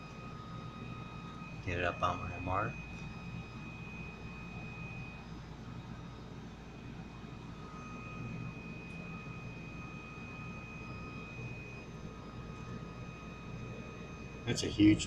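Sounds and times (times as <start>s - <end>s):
faint high whine: 0.0s - 15.0s
low hum: 0.0s - 15.0s.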